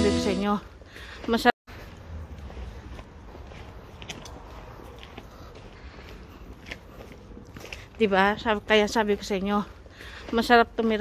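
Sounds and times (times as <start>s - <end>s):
faint footsteps on pavement: 0.4s - 11.0s
low street rumble: 0.6s - 11.0s.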